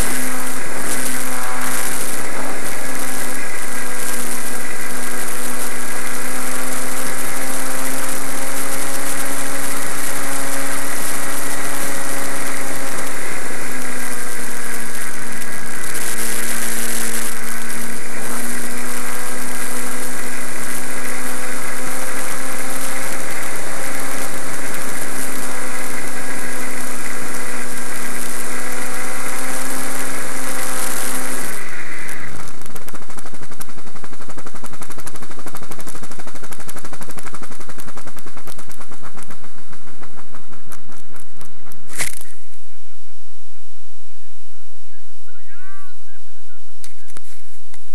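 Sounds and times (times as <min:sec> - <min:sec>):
model aircraft motor and propeller: 0:00.0 - 0:43.2.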